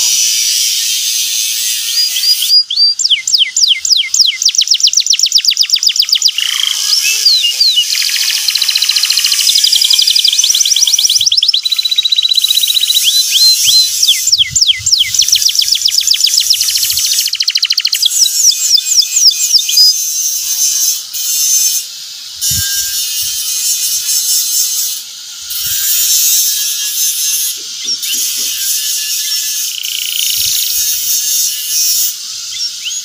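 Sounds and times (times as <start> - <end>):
canary singing: 0.0 - 21.8, 22.4 - 33.0.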